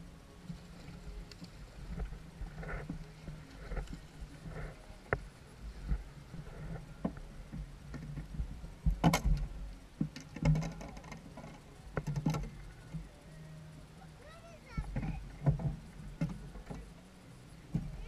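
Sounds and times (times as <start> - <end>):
knocks and clatters in boat: 0.5 - 13.2, 14.6 - 18.0.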